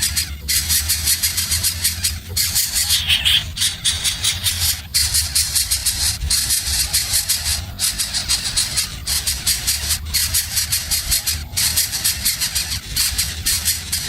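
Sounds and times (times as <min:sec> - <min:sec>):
baby birds begging: 0:00.0 - 0:14.0
low steady hum: 0:00.0 - 0:14.0.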